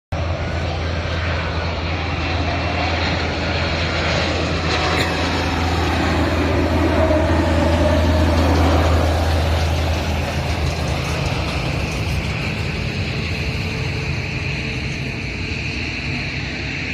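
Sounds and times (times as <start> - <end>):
airliner engine noise: 0.1 - 16.9.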